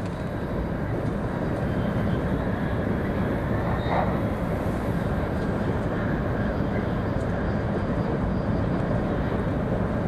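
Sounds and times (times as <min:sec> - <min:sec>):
train interior low rumble: 0:00.0 - 0:10.0.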